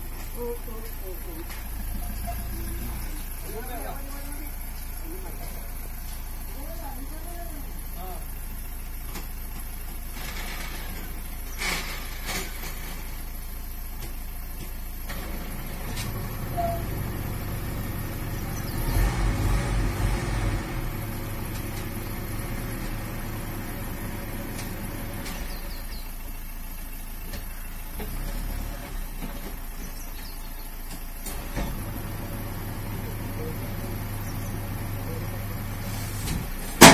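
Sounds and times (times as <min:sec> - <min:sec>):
diesel lorry engine running: 0:00.0 - 0:36.9.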